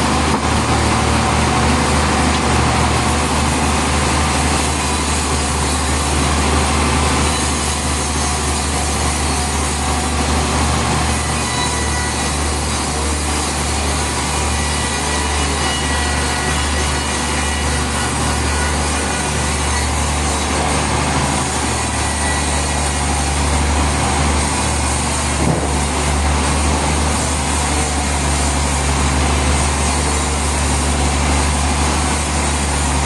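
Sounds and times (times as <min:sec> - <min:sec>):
low hum of drive motor: 0:00.0 - 0:33.0
saw cutting through log: 0:00.0 - 0:33.0.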